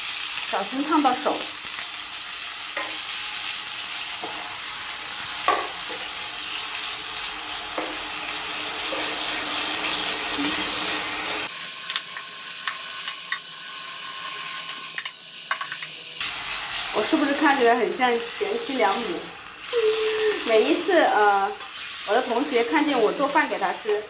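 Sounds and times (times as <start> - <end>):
tofu sizzling in hot oil: 0.0 - 24.0.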